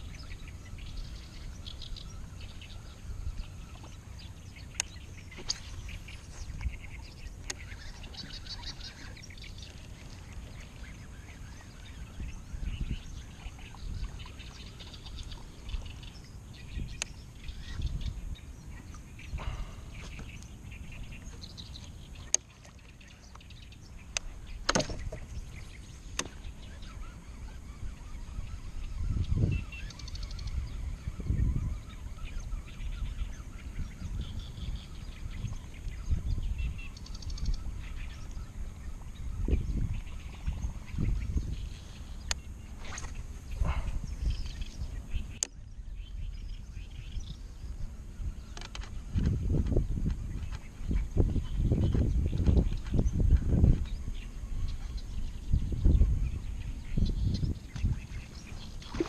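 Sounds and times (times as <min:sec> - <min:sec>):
low rumbling noise: 0:00.0 - 0:22.2, 0:30.4 - 0:59.0
faint bird calls: 0:00.0 - 0:59.0.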